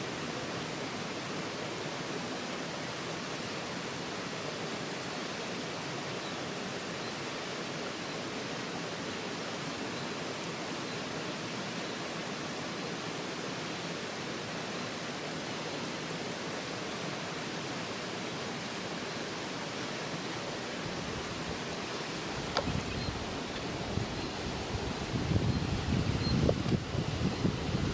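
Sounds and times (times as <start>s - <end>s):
stream water running: 0.0s - 27.9s.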